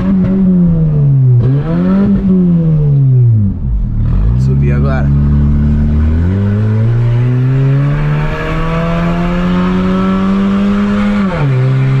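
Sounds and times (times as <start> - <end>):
car engine revving under acceleration: 0.0 - 12.0.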